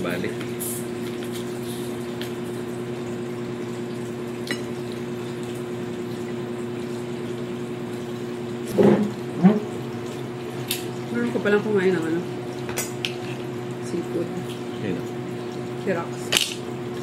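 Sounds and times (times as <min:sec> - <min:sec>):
household appliance humming: 0:00.0 - 0:17.0.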